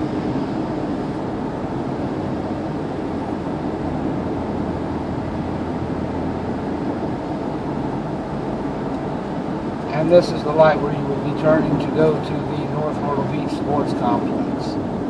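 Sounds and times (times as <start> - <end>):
low engine hum: 0.0 - 15.0
tyre and wind road noise: 0.0 - 15.0.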